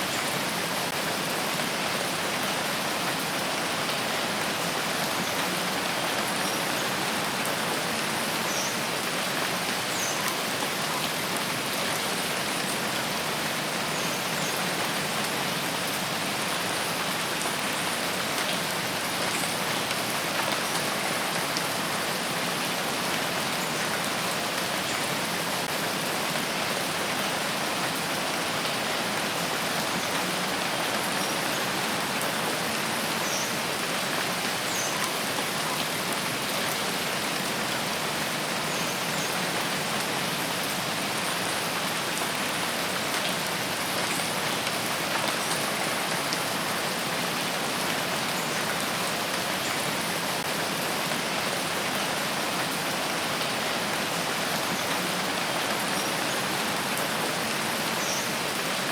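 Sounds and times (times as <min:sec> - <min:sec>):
rain falling on foliage: 0:00.0 - 0:58.9.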